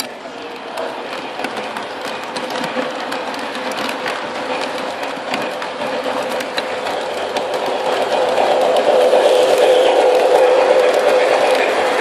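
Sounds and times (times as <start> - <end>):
model train whine: 0.0 - 12.0
wheels clicking over rail joints: 0.0 - 12.0.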